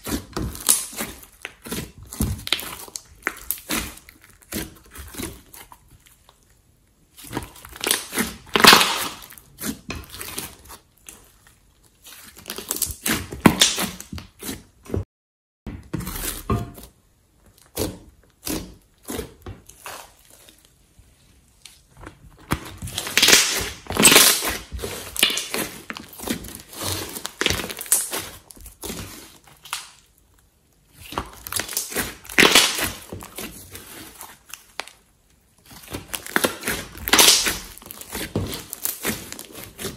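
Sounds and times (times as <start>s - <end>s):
slime squishing: 0.0s - 15.0s, 15.9s - 39.9s.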